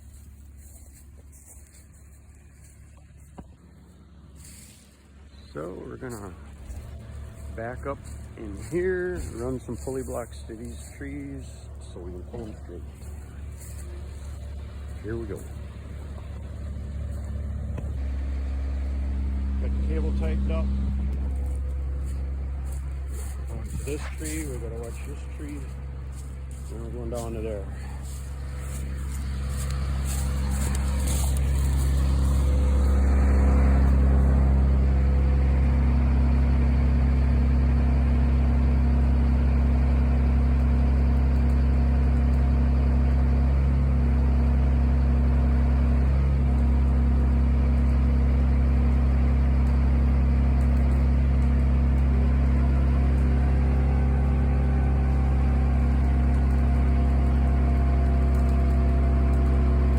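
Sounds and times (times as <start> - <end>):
heavy vehicle engine droning: 0.0 - 59.9.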